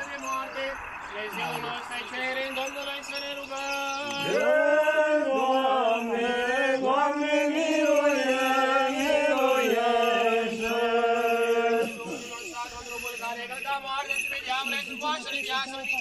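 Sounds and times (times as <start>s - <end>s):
liturgical chant voice: 0.1s - 13.2s.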